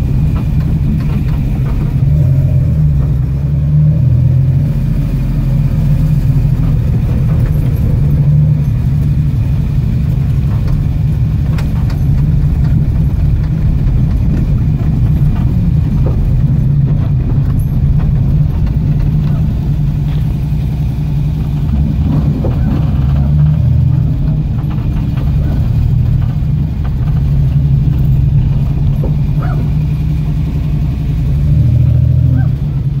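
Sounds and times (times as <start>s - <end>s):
car engine low rumble: 0.0s - 33.0s.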